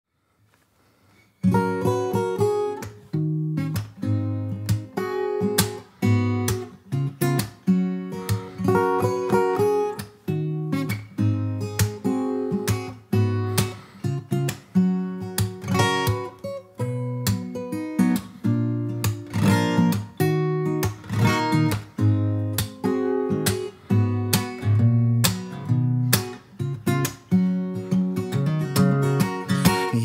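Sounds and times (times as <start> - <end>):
acoustic guitar strumming: 1.4 - 30.0.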